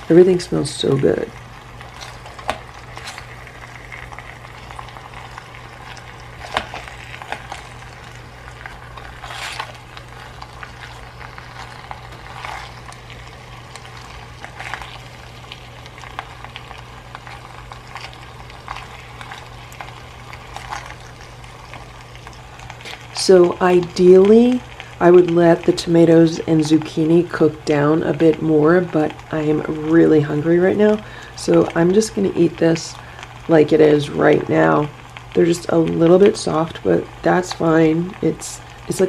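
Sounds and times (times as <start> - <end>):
steady sizzle: 0.0 - 39.0.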